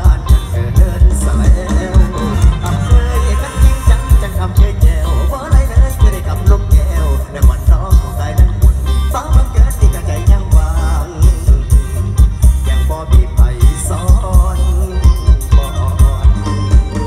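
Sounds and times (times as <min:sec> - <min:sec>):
band music through pa system: 0:00.0 - 0:17.0
person singing: 0:00.0 - 0:17.0.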